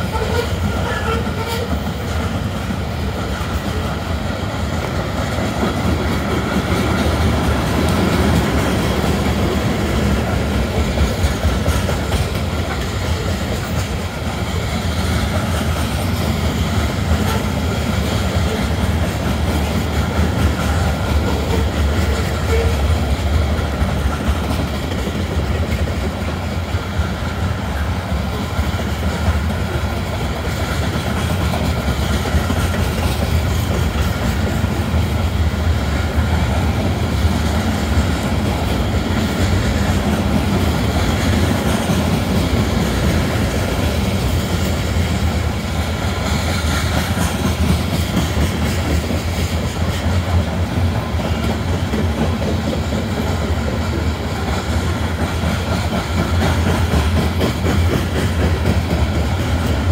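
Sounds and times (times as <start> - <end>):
steel wheels rumbling on rail: 0.0 - 59.9.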